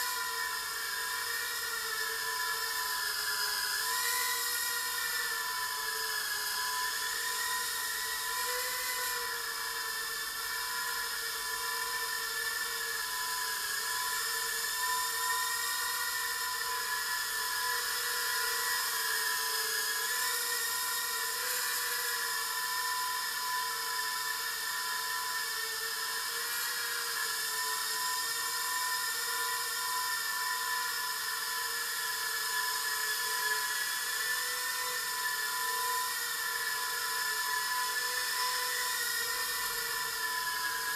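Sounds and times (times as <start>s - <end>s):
quadcopter high-pitched whine: 0.0s - 40.9s.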